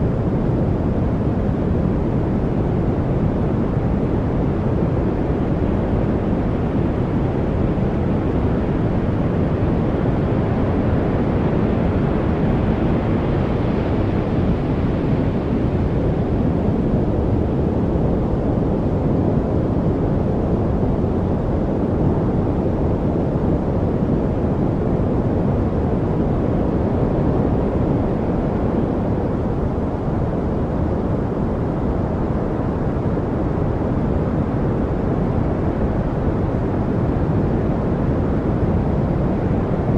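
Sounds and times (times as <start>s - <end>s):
deep rumbling white noise: 0.0s - 39.9s.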